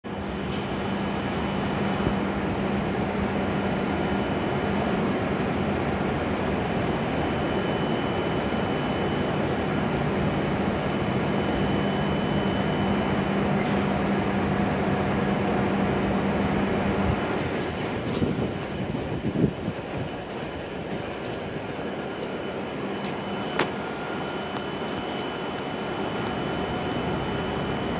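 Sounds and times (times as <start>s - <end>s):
train equipment humming: 0.1s - 27.9s.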